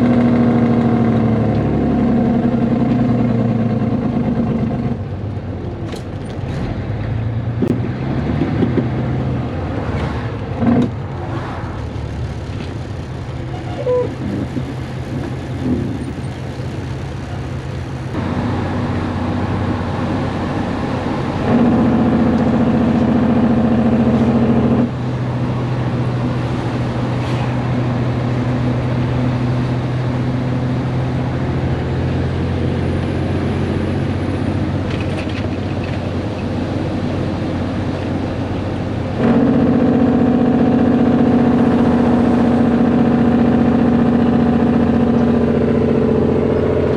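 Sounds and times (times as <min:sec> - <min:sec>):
diesel truck engine: 0:00.0 - 0:46.9.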